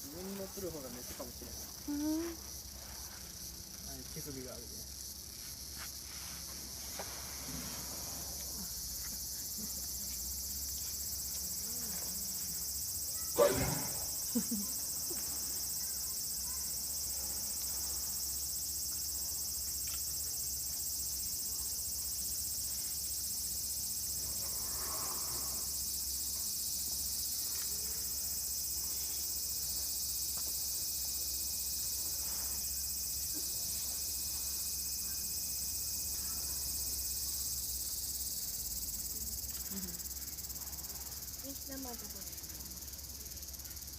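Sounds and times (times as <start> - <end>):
cicadas chorus: 0.0 - 43.9.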